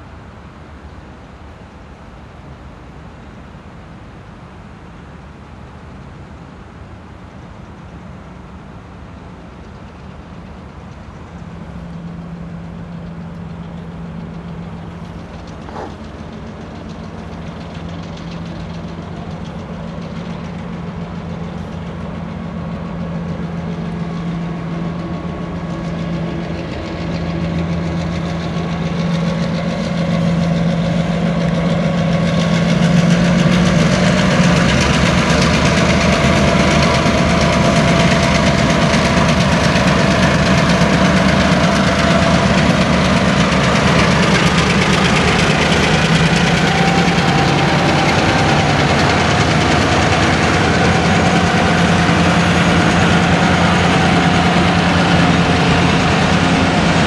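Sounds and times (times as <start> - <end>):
diesel locomotives humming: 0.0 - 57.0.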